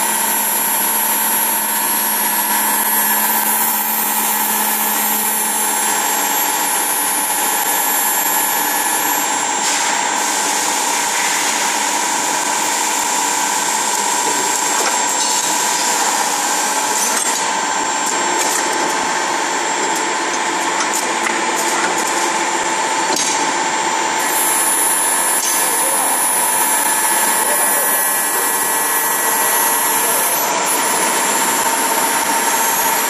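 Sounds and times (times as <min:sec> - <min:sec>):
loud machining noise: 0:00.0 - 0:33.0.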